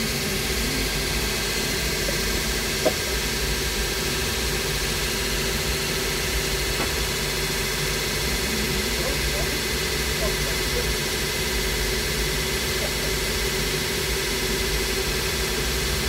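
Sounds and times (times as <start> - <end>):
workshop machinery humming: 0.0 - 16.0.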